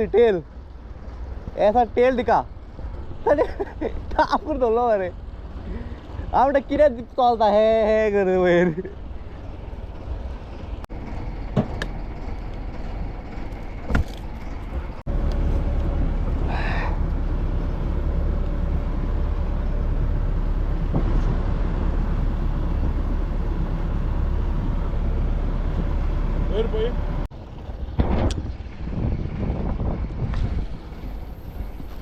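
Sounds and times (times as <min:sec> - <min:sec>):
wind and water rushing: 0:00.0 - 0:10.9, 0:13.8 - 0:32.0
boat engine rumbling: 0:00.0 - 0:32.0.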